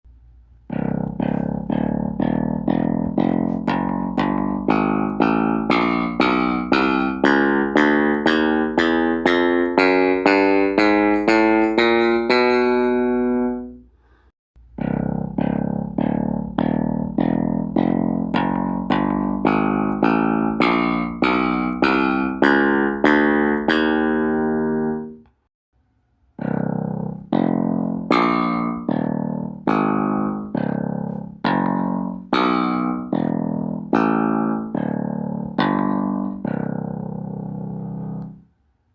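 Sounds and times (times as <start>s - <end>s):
bass pedal notes: 0.1s - 25.4s, 26.4s - 38.5s.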